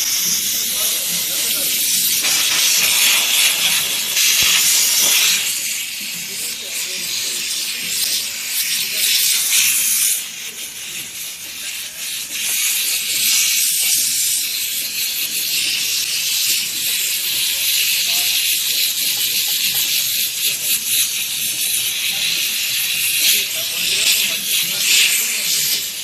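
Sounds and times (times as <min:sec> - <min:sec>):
steam cleaner hissing: 0:00.0 - 0:26.0.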